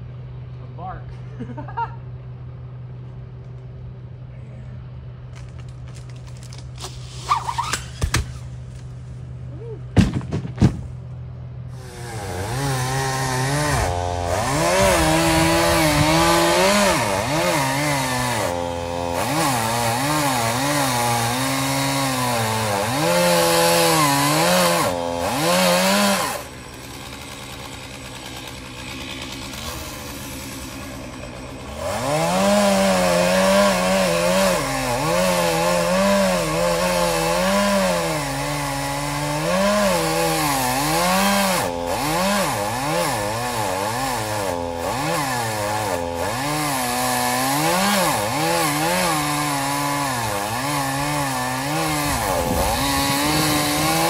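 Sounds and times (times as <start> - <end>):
chainsaw cutting wood: 5.2 - 9.0, 11.6 - 54.0.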